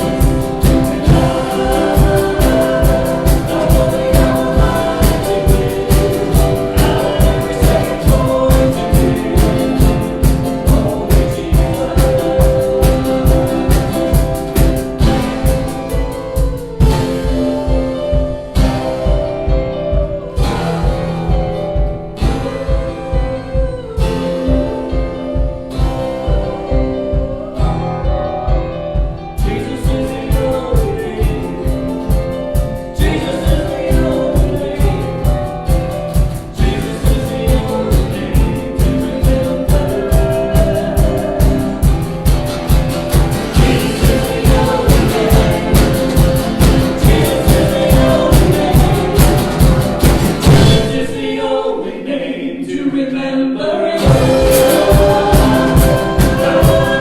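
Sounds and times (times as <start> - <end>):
cymbals: 0.0 - 24.6, 29.4 - 51.4, 54.0 - 57.0
steady drum beat: 0.0 - 51.2, 54.0 - 57.0
band playing: 0.0 - 51.3, 53.9 - 57.0
worship song singing: 0.0 - 57.0.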